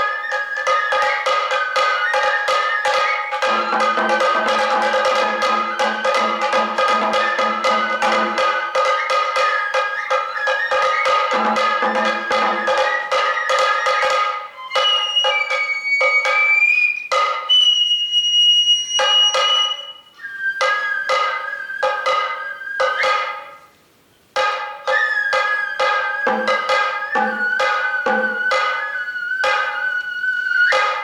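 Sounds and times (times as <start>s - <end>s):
sharp drum strokes: 0.0s - 17.7s, 19.0s - 31.0s
bamboo flute long notes: 0.0s - 23.7s, 24.4s - 31.0s.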